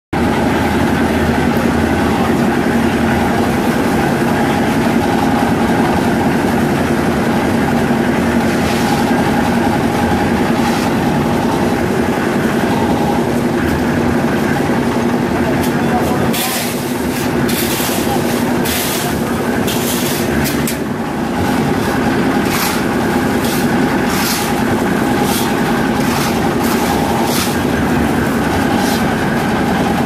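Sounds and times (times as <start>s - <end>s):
concrete mixer engine droning: 0.2s - 30.0s.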